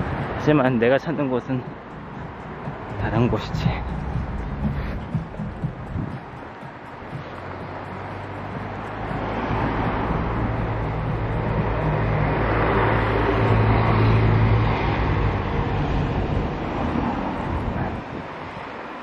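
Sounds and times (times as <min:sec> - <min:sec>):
vehicle passing by: 0:01.5 - 0:19.0.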